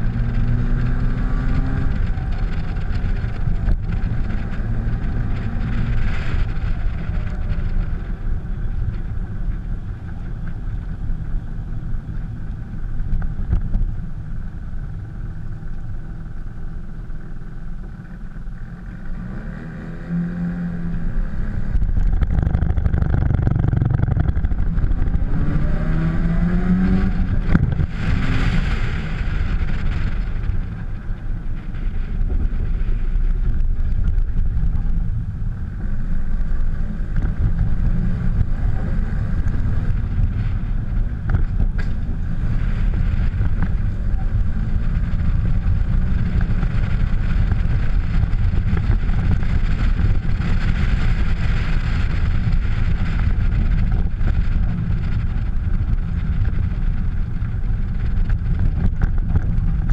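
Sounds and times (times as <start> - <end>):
rotary car engine running: 0.0 - 59.9.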